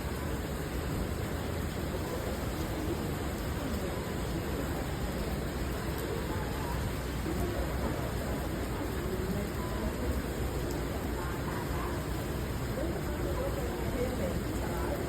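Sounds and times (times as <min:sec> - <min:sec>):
city street noise: 0:00.0 - 0:15.0
faint distant voices: 0:00.0 - 0:15.0
rain falling: 0:00.0 - 0:15.0.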